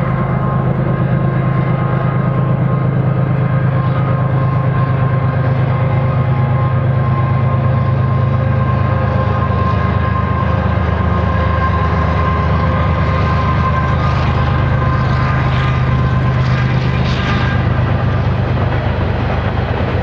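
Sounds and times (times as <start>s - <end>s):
locomotive engines droning: 0.0s - 20.0s.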